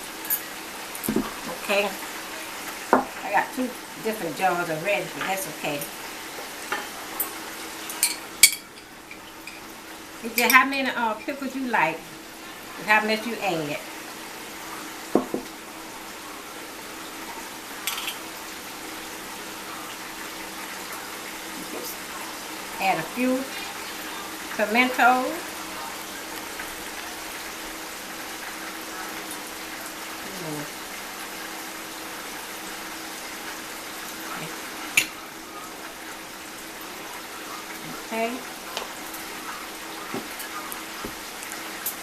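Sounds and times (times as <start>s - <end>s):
oil sizzling in a pan: 0.0s - 42.0s.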